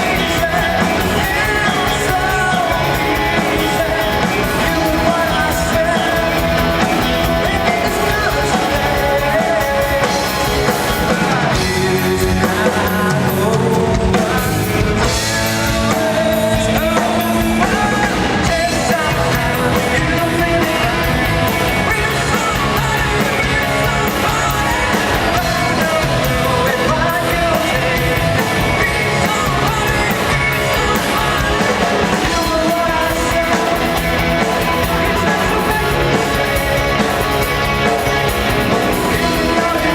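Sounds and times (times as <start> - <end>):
lead vocal singing: 0.0 - 39.9
rock band playing live: 0.0 - 39.9.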